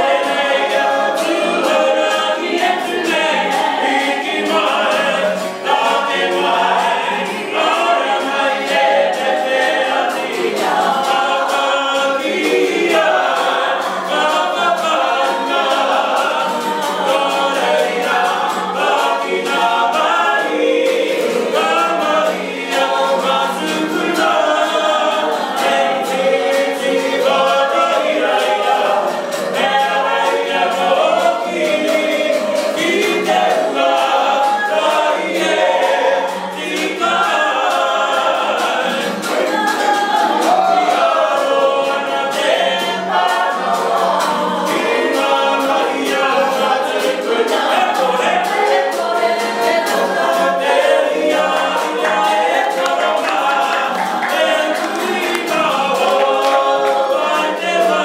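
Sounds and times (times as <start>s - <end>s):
group singing in chorus: 0.0s - 58.0s
rhythmic slaps of poi: 0.0s - 58.0s
strummed acoustic guitar: 0.0s - 58.0s.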